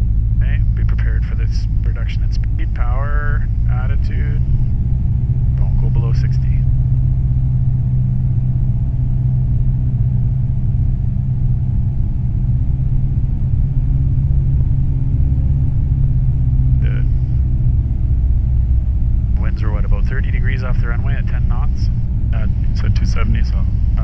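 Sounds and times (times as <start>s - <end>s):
light aircraft engine droning: 0.0s - 24.0s.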